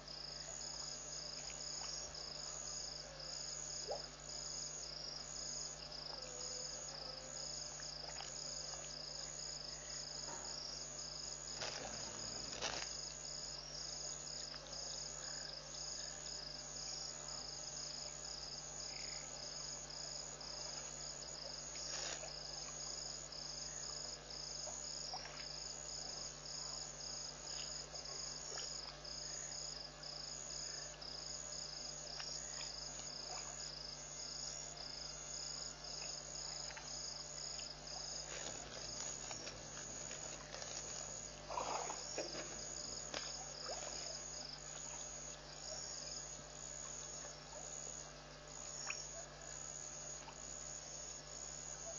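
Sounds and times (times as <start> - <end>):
crickets chirping: 0.0 - 51.9
low steady hum: 0.0 - 51.9.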